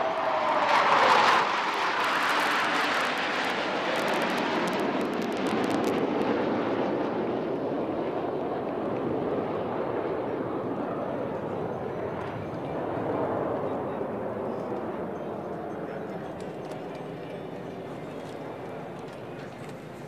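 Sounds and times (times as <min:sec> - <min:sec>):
jet aircraft flying past: 0:00.0 - 0:20.0.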